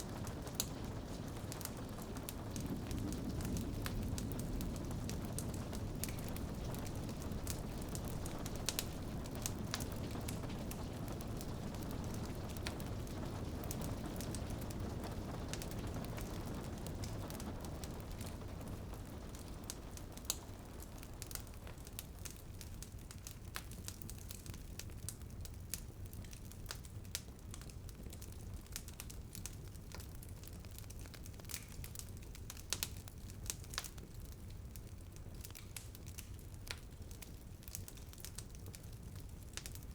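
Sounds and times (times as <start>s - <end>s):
rain on a window: 0.0s - 39.9s
wood fire crackling and popping: 0.0s - 39.9s.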